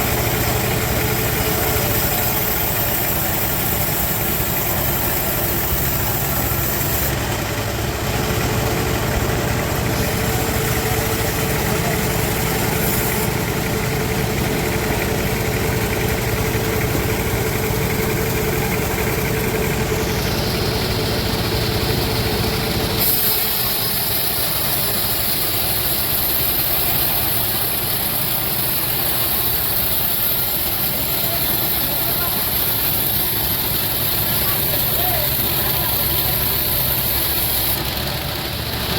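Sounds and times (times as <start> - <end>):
sawmill machinery humming: 0.0 - 38.9
steady machine whine: 0.0 - 38.9.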